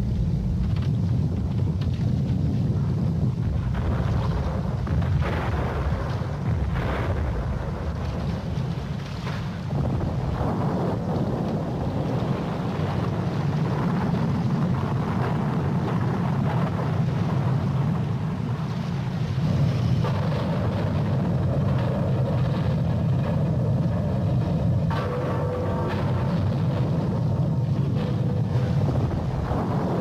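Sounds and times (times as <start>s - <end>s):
boat engine rumble: 0.0s - 30.0s
wind on microphone: 0.0s - 30.0s.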